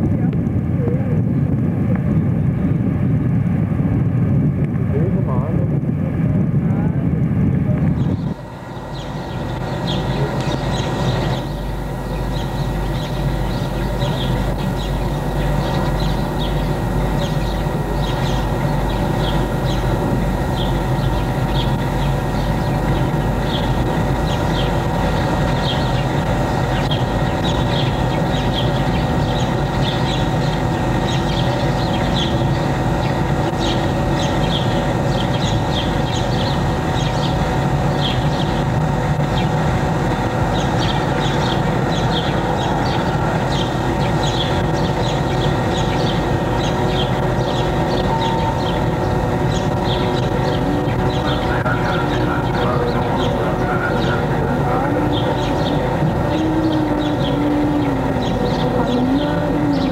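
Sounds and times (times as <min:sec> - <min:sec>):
low hum: 0:00.0 - 0:59.9
film projector whirring: 0:07.5 - 0:59.9.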